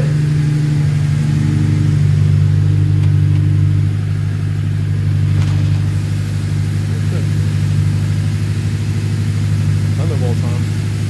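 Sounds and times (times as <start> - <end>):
race car engine warming up: 0.0 - 11.0.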